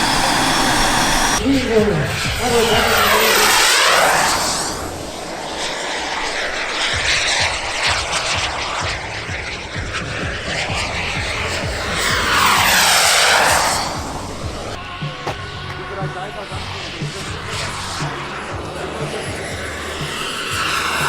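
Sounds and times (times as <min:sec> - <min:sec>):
model aircraft engine flying past: 0:00.0 - 0:21.0.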